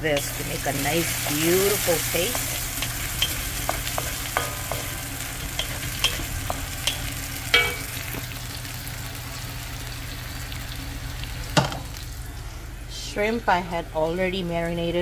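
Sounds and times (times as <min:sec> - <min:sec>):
onions sizzling in oil: 0:00.0 - 0:12.2.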